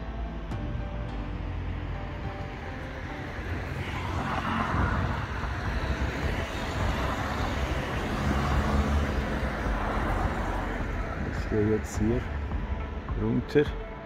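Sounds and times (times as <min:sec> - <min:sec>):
car driving past: 0:01.2 - 0:12.9.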